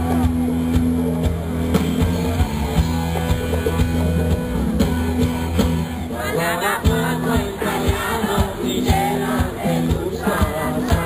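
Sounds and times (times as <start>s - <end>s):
guitar: 0.0s - 11.0s
steady drum beat: 0.0s - 11.0s
sustained bass notes: 0.0s - 11.0s.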